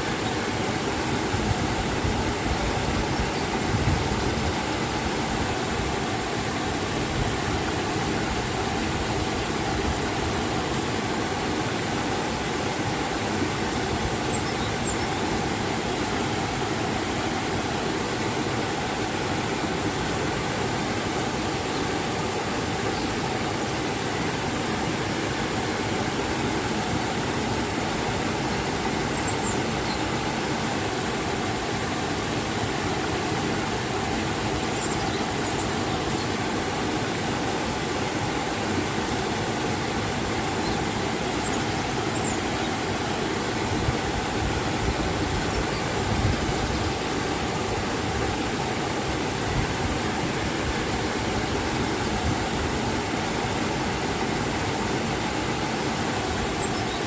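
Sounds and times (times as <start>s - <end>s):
river and waterfall rushing: 0.0s - 57.0s.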